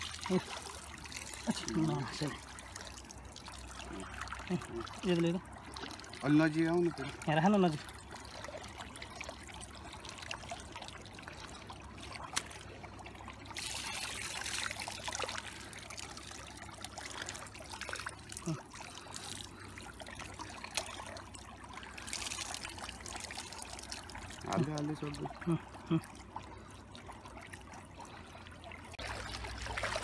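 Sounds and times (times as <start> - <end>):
shallow water trickling: 0.0 - 30.0.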